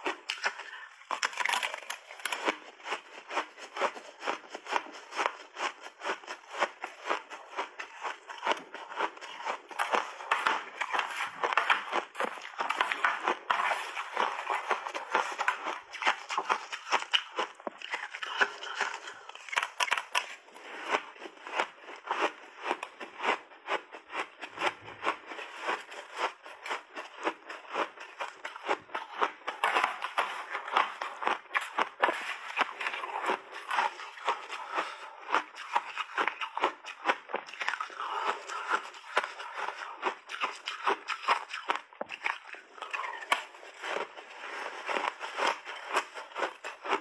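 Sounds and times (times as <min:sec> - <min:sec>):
ice crunching in mouth: 0:00.0 - 0:47.0.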